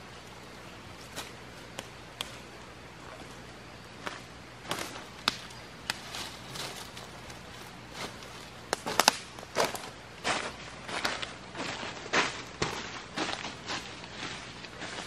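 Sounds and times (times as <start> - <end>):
crunchy rustles: 0.0 - 15.0.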